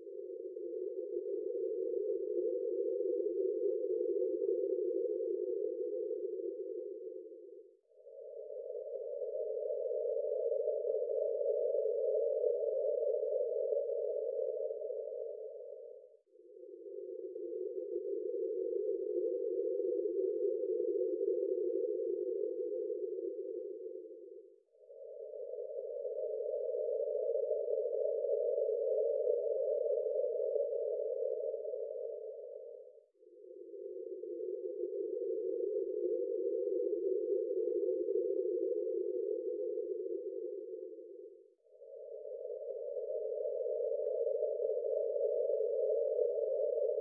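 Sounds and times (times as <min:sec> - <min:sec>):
soft hum-like breath noise: 0:00.0 - 0:47.0.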